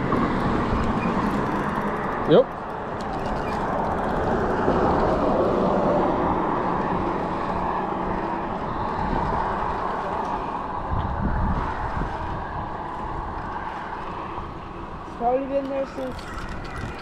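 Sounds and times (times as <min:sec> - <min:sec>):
passing road traffic: 0:00.0 - 0:17.0
wind rumble: 0:00.0 - 0:17.0.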